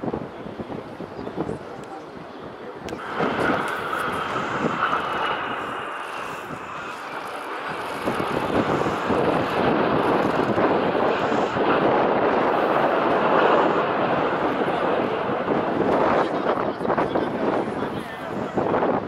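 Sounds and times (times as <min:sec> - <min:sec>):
jet flying past: 0:02.8 - 0:19.0.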